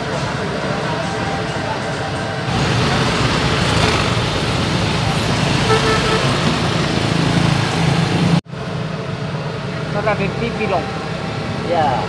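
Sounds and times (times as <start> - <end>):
street traffic engine rumble: 0.0 - 12.0.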